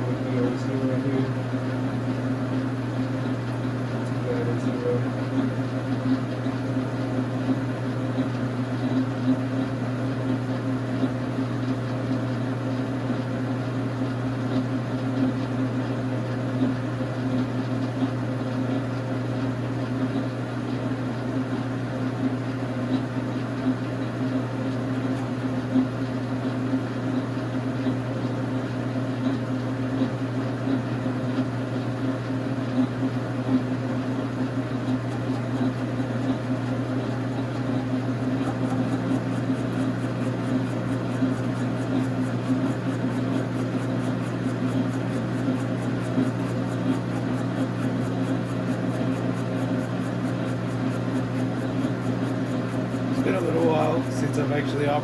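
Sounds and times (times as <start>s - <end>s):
metal lathe humming: 0.0s - 14.2s, 19.9s - 31.0s, 31.6s - 55.0s.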